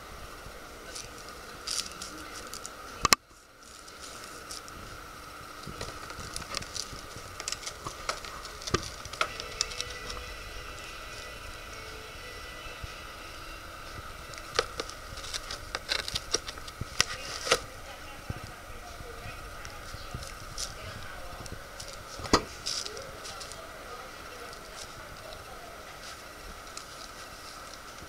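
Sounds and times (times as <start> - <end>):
faint steady hum: 0.0 - 28.0
plastic and cardboard crinkling: 0.8 - 11.3, 13.9 - 28.0.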